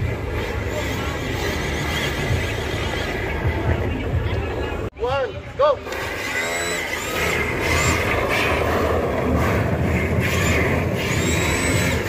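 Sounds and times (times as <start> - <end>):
electric motors whining: 0.0 - 4.2, 5.8 - 12.0
steady background noise: 0.0 - 12.0.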